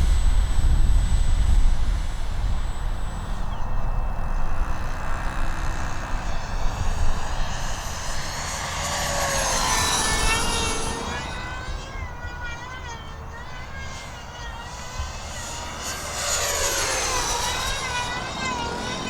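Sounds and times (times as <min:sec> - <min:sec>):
model aircraft engine whine: 0:00.0 - 0:19.0.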